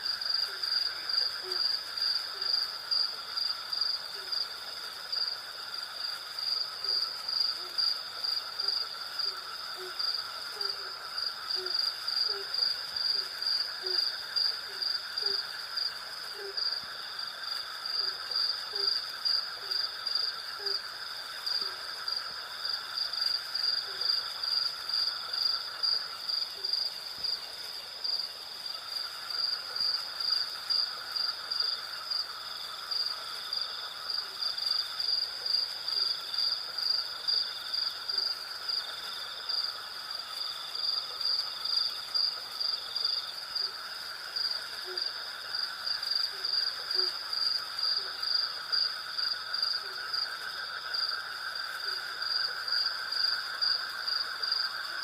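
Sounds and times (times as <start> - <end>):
crickets chirping: 0.0 - 55.0
high insect trill: 0.0 - 55.0.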